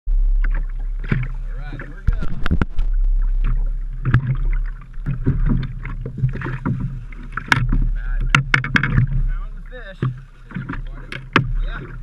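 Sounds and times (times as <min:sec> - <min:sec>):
water noise: 0:00.0 - 0:12.0
low steady hum: 0:00.1 - 0:12.0
fishing gear knocking in boat: 0:00.4 - 0:12.0.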